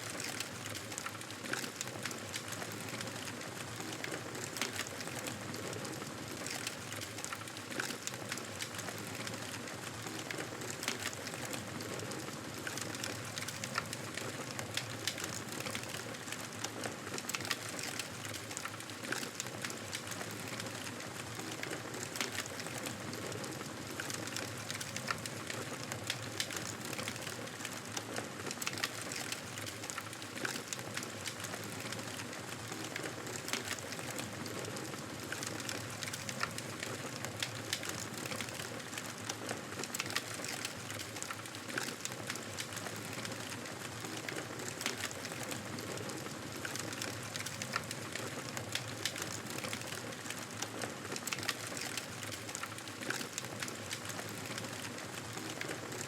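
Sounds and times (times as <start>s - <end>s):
fire crackling and popping: 0.1s - 56.0s.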